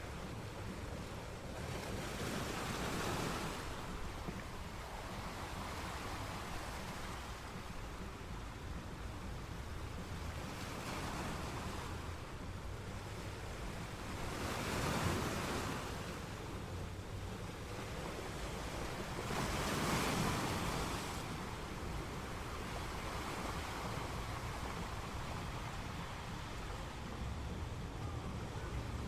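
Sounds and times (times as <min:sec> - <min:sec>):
ocean waves breaking on rocks: 0:00.0 - 0:29.0.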